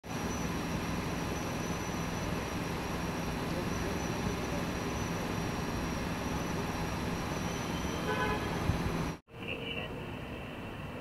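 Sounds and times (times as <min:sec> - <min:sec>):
vehicle engine idling: 0:00.0 - 0:09.2
city street noise: 0:00.0 - 0:11.0.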